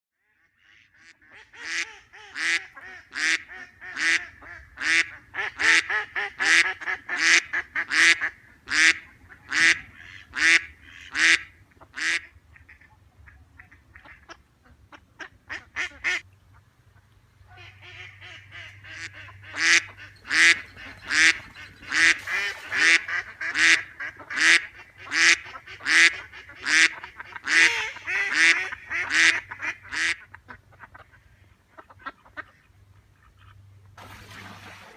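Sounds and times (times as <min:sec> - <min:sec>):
duck quacking: 0:00.4 - 0:16.2, 0:17.5 - 0:33.6.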